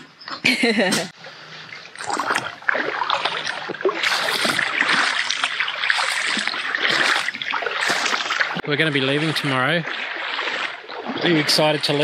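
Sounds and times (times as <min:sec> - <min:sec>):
water splashing in a shallow creek: 0:00.0 - 0:12.0.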